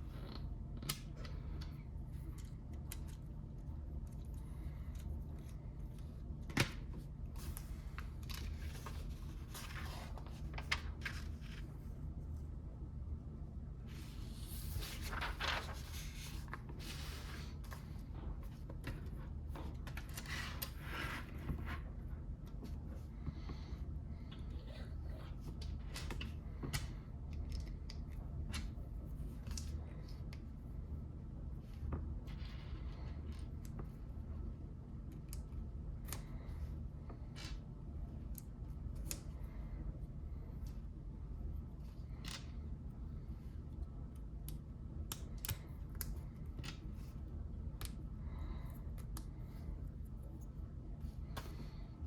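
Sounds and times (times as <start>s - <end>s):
low hum: 0.0s - 52.0s.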